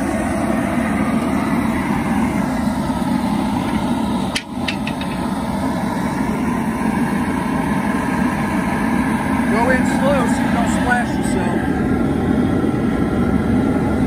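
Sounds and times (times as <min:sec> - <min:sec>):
propane burner rushing: 0:00.0 - 0:14.0.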